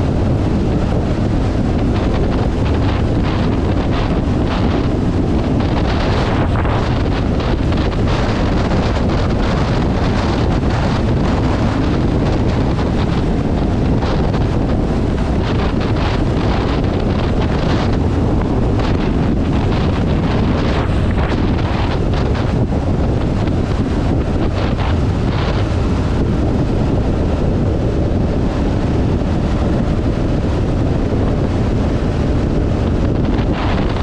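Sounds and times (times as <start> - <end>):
wind rush on microphone: 0.0 - 34.0.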